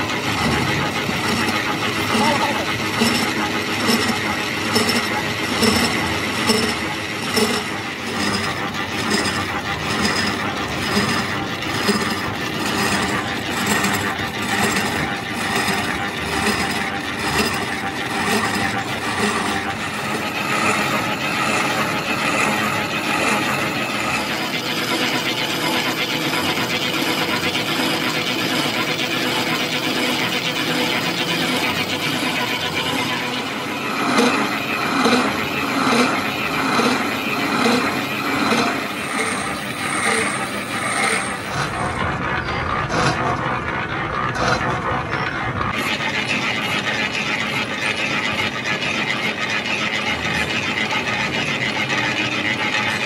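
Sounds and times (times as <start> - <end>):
lathe running with mechanical clatter: 0.0 - 53.0.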